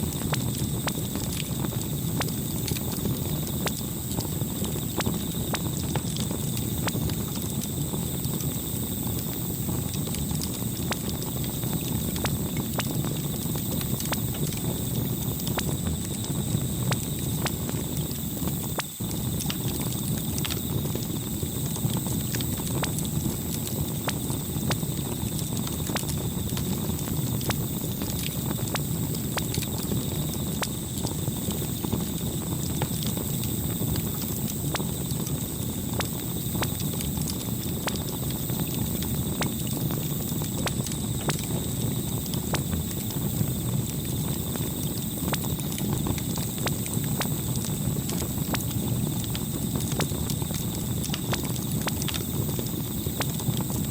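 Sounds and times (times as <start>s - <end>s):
campfire crackling: 0.0s - 53.9s
low rumble of flames: 0.0s - 53.9s.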